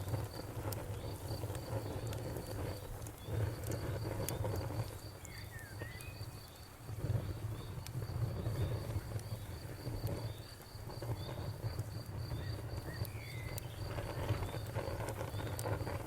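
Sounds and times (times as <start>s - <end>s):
fire crackling pops: 0.0s - 16.0s
wood fire rumbling: 0.0s - 16.0s
crickets chirping: 0.2s - 16.0s.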